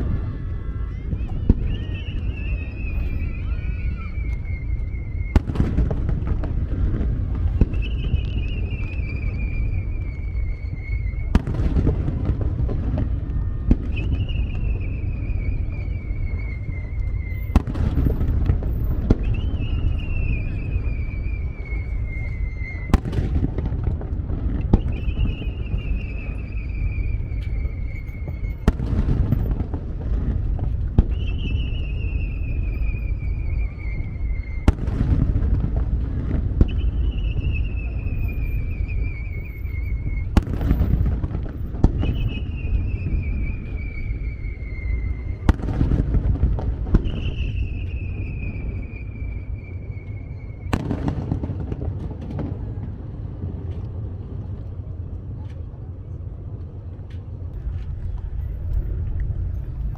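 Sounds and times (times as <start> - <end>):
falling firework whistle: 0.0 - 55.4, 57.5 - 59.9
fireworks bangs: 0.0 - 55.5
low rumble: 0.0 - 59.9.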